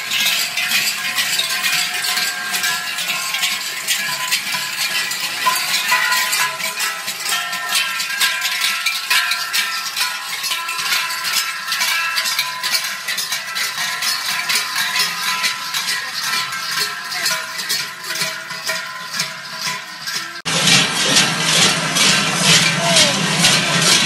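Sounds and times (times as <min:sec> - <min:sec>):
large cowbells clanging: 0:00.0 - 0:24.0.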